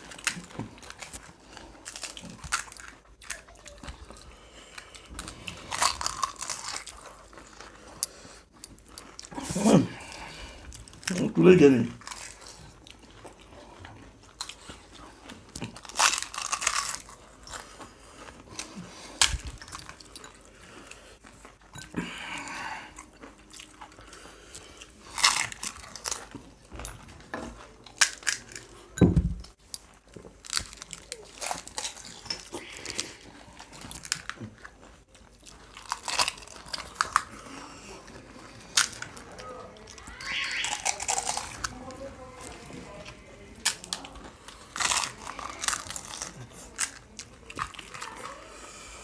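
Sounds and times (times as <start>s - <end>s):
crunchy shells being chewed: 0.0s - 49.0s.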